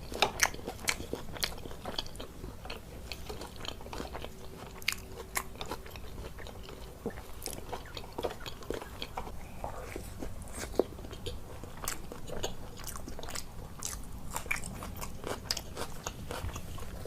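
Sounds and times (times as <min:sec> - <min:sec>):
chewing crunchy food: 0:00.0 - 0:17.0.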